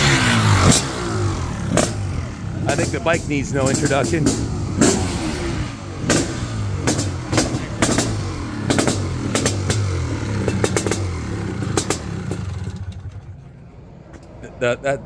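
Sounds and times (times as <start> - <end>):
two-stroke motorcycle engine revving: 0.0 - 13.4.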